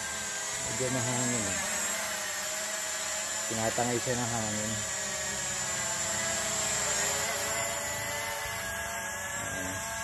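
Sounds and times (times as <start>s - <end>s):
toy drone motors whining: 0.0s - 10.0s.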